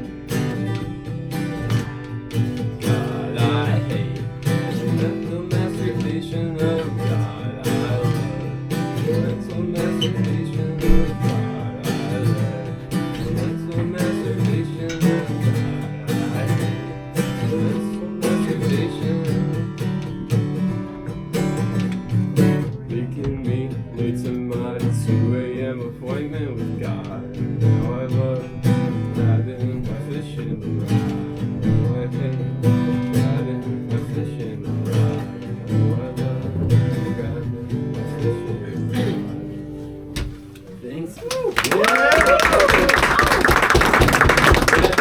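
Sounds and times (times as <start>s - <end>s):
acoustic guitar strumming: 0.0s - 41.2s.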